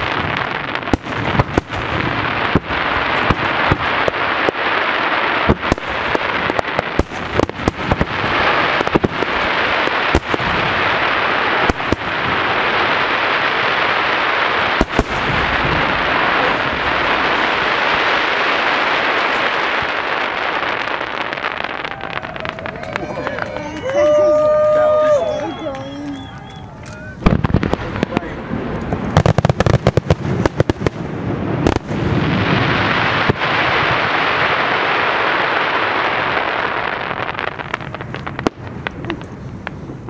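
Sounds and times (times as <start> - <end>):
fireworks booming: 0.0 - 40.0
fireworks crackling hiss: 0.0 - 40.0.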